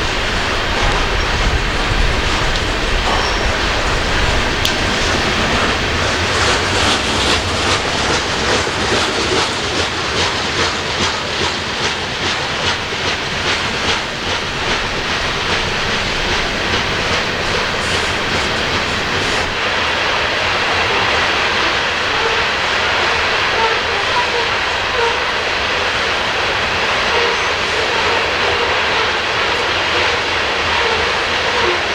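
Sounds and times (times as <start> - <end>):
train cars rolling rumble: 0.0 - 31.9
wheels clicking over rail joints: 0.0 - 31.9.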